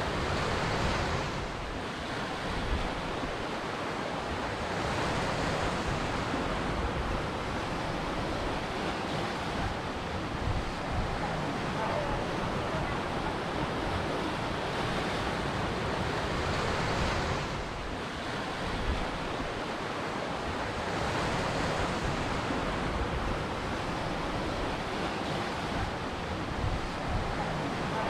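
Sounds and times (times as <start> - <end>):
ocean waves breaking on shore: 0.0 - 28.0.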